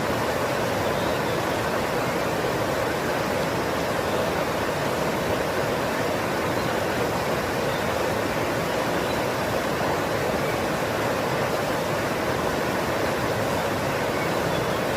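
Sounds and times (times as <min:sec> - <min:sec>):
flowing water rushing: 0:00.0 - 0:14.9.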